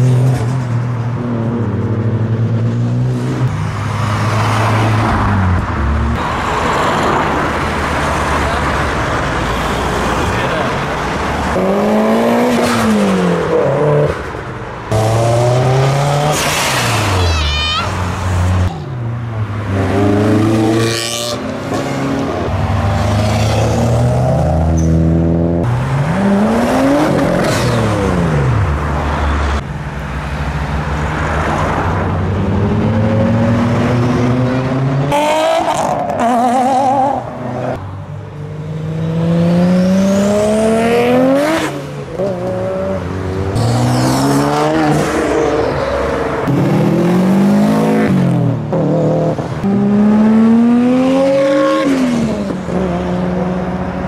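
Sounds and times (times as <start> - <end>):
cars accelerating hard: 0.0 - 17.3, 17.9 - 29.6, 31.0 - 54.0
cars sweeping past: 0.0 - 54.0.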